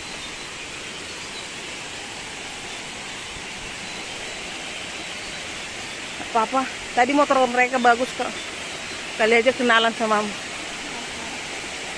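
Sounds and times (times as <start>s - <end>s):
waterfall roaring: 0.0s - 11.9s.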